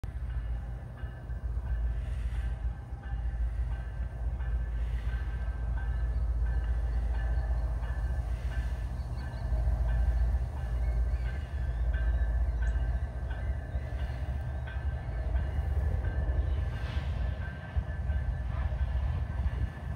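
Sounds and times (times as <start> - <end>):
diesel locomotives rumbling: 0.0 - 19.9.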